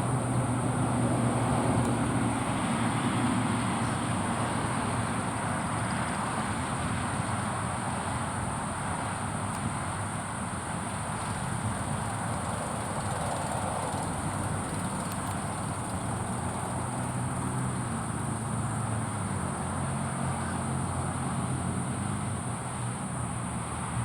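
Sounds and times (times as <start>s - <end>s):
low vehicle rumble: 0.0s - 24.0s.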